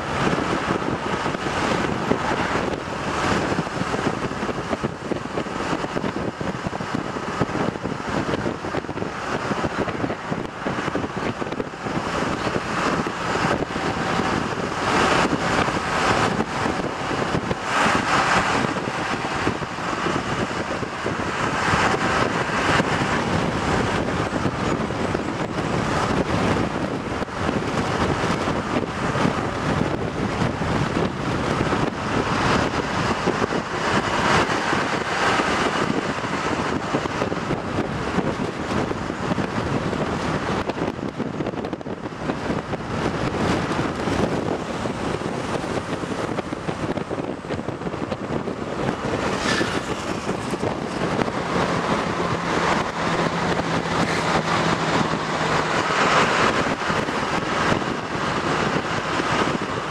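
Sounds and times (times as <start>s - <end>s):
car road and engine noise: 0.0s - 59.9s
wind rushing over microphone: 0.0s - 59.9s.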